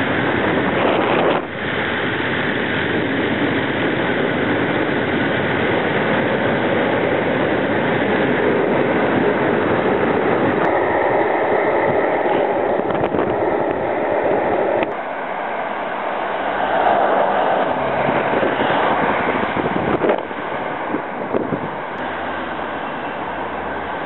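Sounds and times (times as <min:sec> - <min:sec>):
longboard wheels rolling on asphalt: 0:00.0 - 0:24.0.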